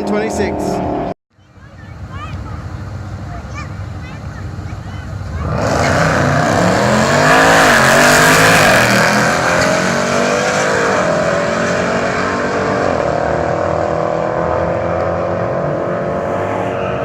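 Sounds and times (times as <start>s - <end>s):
car engine at full throttle: 1.7s - 17.0s.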